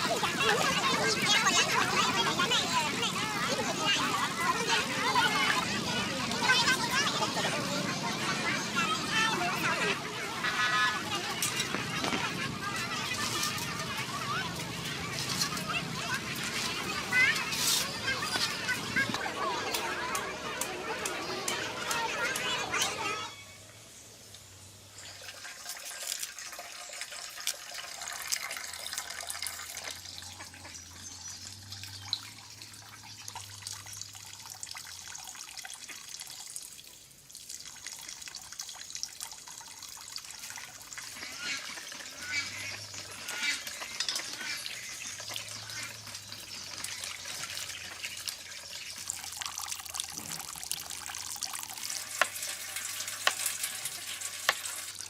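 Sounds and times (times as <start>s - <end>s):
running and splashing water: 0.0s - 23.3s, 24.4s - 55.0s.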